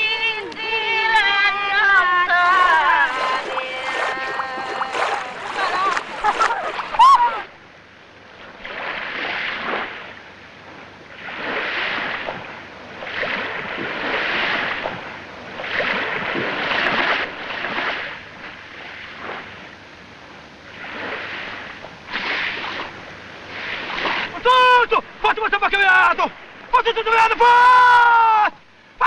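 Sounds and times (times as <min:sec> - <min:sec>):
sea water rushing and splashing: 0:00.0 - 0:27.8.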